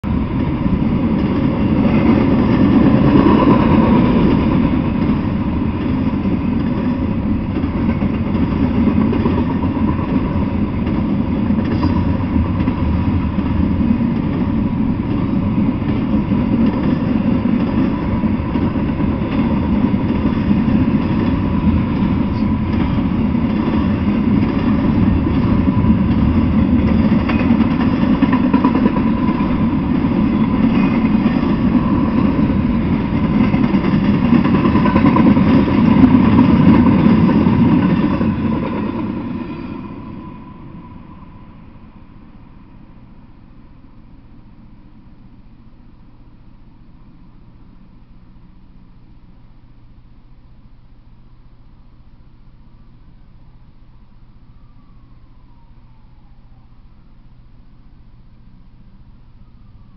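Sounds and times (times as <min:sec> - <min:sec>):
train wheels rumbling on rail: 0:00.0 - 0:50.4
faint steady whine: 0:03.4 - 0:59.9.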